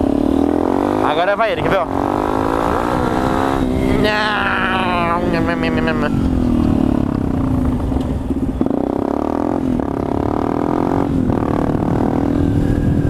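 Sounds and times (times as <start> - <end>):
motorcycle engine running hard: 0.0 - 13.0.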